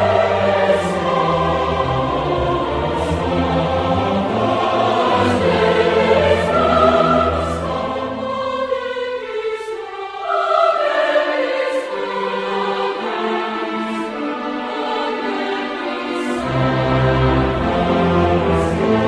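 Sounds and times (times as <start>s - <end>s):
choir singing sustained notes: 0.0s - 19.0s
orchestral music: 0.0s - 19.0s.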